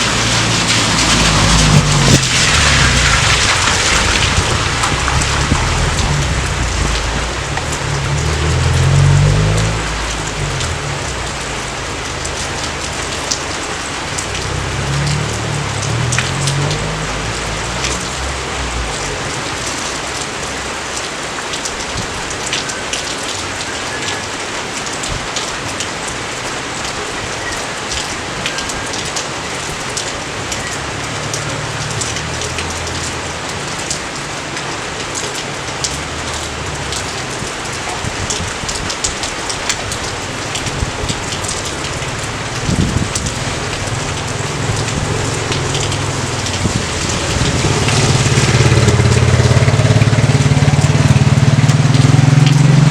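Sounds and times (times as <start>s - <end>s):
raindrops striking close by: 0.0s - 52.9s
steady rain hiss: 0.0s - 52.9s.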